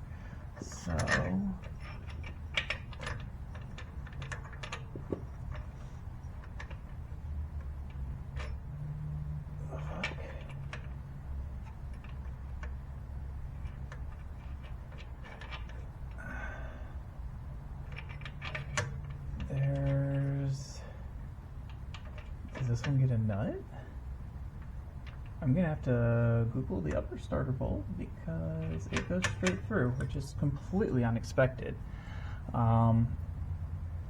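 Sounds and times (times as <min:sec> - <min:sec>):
bolts and hand tools clicking: 0:00.0 - 0:16.6, 0:17.7 - 0:20.6, 0:21.6 - 0:23.5, 0:24.4 - 0:31.3
low steady hum: 0:00.0 - 0:34.0.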